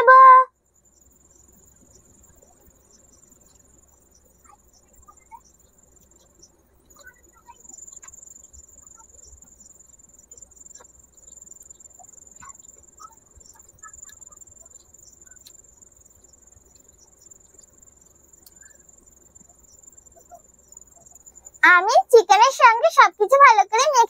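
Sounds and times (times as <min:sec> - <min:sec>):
cricket trilling: 0:00.1 - 0:24.0.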